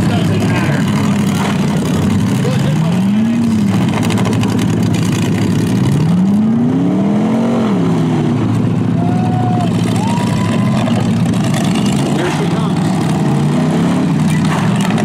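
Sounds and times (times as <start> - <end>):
engine revving: 0.0 - 15.0
truck engines running hard: 0.0 - 15.0.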